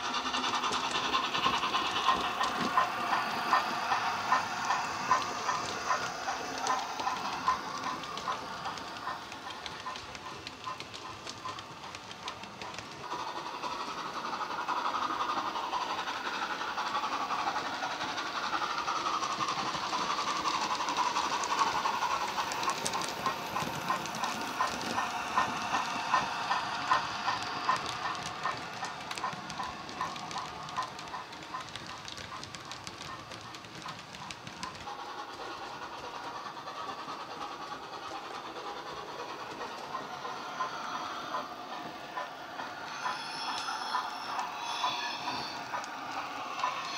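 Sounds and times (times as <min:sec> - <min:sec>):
model train steam chuffing: 0:00.0 - 0:46.9.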